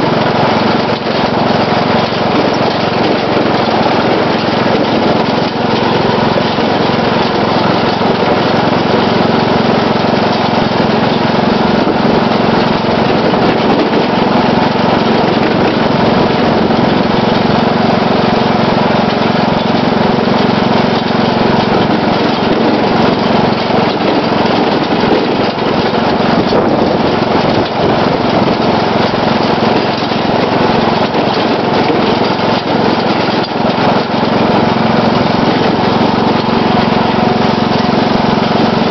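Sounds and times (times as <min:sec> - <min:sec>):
riding lawn mower engine: 0:00.0 - 0:38.9.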